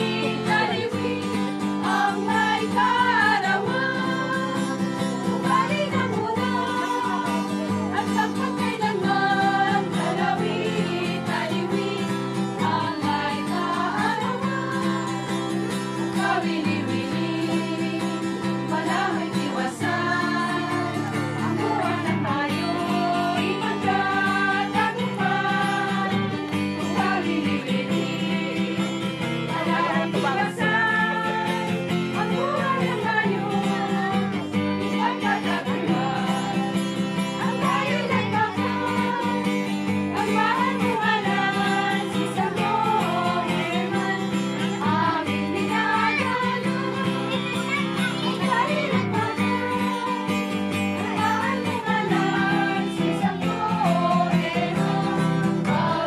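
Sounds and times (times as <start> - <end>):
strummed acoustic guitar: 0.0 - 56.0
women singing in unison: 0.0 - 56.0.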